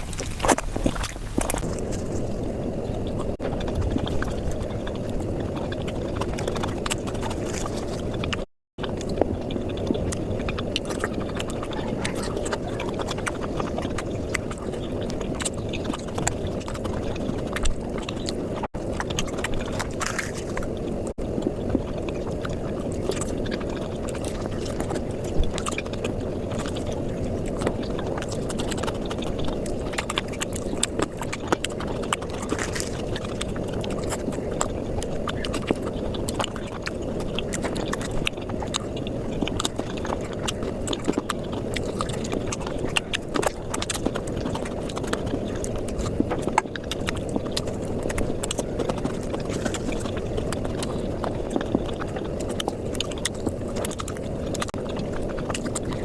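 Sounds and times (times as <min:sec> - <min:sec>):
sped-up chewing and lip smacks: 0:00.0 - 0:56.0.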